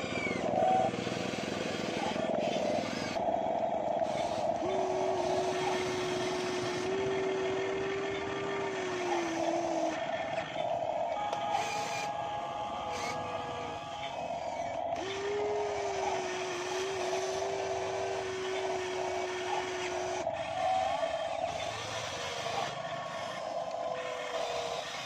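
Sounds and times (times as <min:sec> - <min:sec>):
hydraulic pumps whining: 0:00.0 - 0:25.0.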